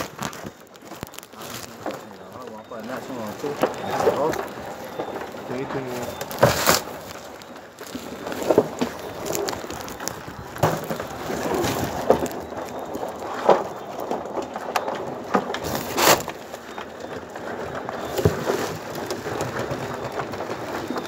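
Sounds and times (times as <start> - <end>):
plastic sack rustling and crackling: 0.0 - 21.0.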